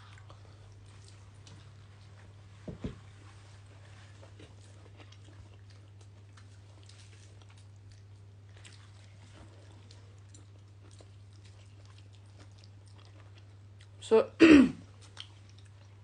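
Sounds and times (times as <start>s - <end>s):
child chewing food: 0.0s - 14.0s, 14.8s - 16.0s
steady low hum: 0.0s - 16.0s.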